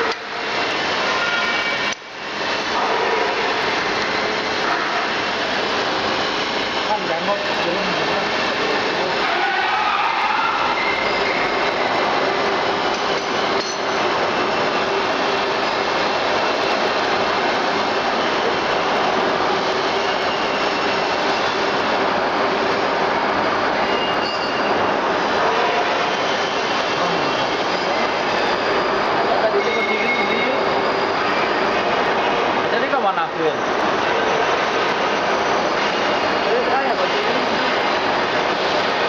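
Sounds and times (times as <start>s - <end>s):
milling machine rushing noise: 0.0s - 39.0s.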